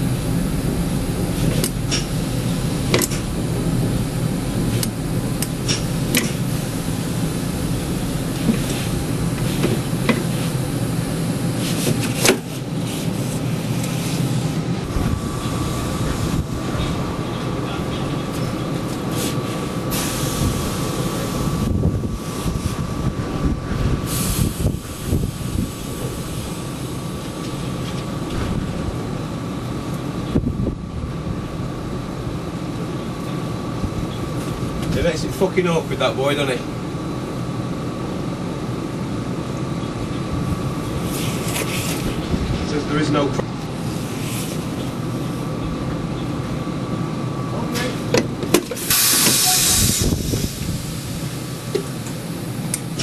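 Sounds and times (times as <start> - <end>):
high whine: 0.0 - 53.0
tram rumbling on track: 0.0 - 53.0.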